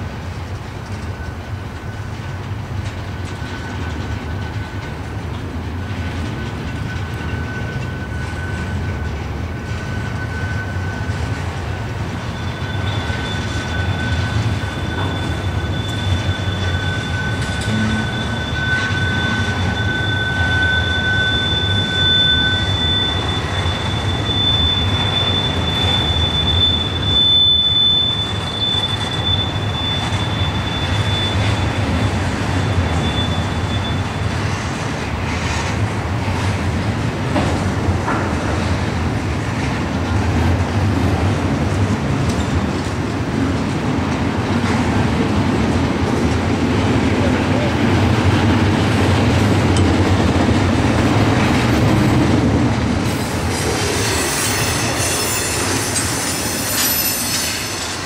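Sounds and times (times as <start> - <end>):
freight train cars rumbling past: 0.0 - 58.0
train wheels squealing: 0.0 - 58.0.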